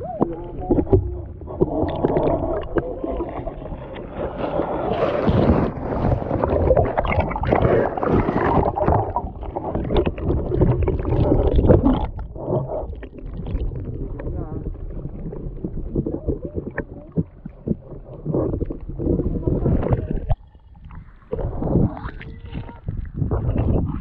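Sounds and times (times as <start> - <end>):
muffled underwater river sloshing: 0.0 - 24.0.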